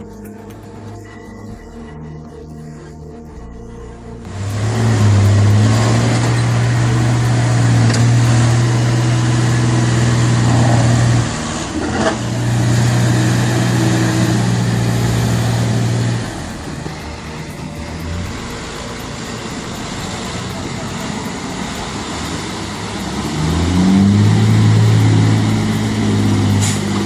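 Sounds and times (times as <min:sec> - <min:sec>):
heavy truck engine running: 0:04.2 - 0:27.0.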